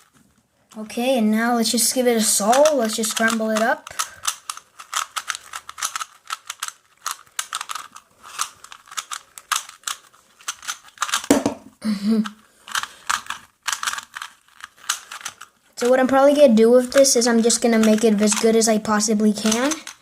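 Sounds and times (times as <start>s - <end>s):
puzzle cube layers clicking: 1.7s - 11.4s, 12.2s - 20.0s.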